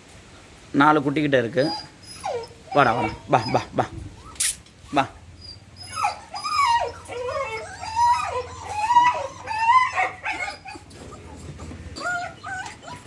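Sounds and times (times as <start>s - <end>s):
puppies whining and yipping: 1.6s - 4.5s, 5.3s - 13.0s.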